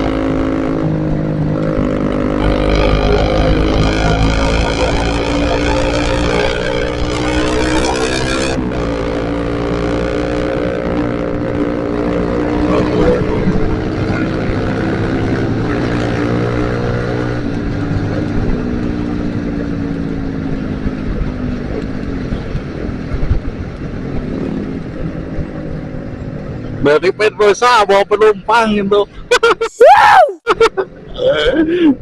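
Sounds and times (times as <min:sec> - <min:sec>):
wind noise: 0:00.0 - 0:26.8
motorcycle engine cruising: 0:00.0 - 0:29.3
road noise: 0:00.0 - 0:32.0.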